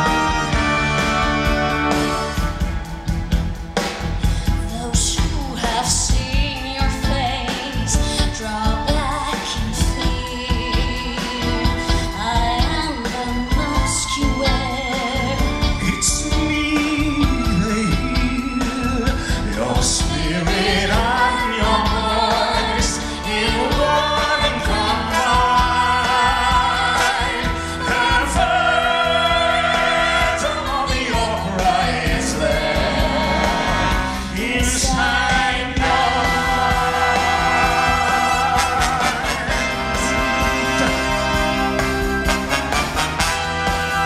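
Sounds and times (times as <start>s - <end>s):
live band with bass and drums: 0.0s - 44.0s
woman and man singing a duet: 4.2s - 41.4s.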